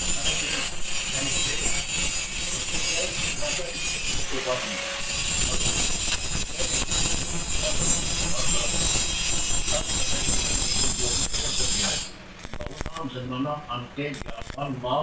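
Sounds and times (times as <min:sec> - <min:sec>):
arc welding crackling hiss: 0:00.0 - 0:13.2, 0:14.1 - 0:14.9.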